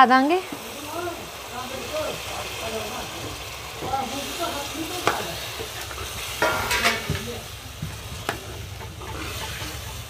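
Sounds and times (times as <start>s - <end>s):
food sizzling: 0.0s - 10.0s
spatula scraping in pan: 0.3s - 10.0s.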